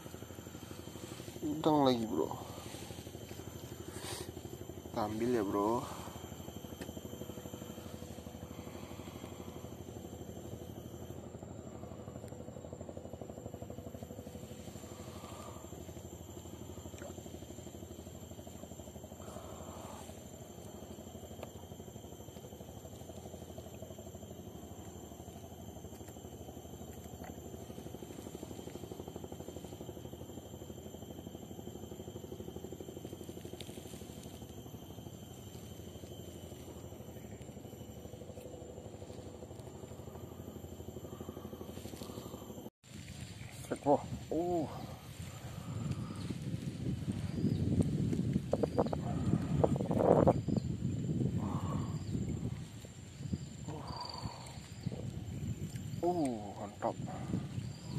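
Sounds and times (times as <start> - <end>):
small motor droning: 0.0 - 57.9.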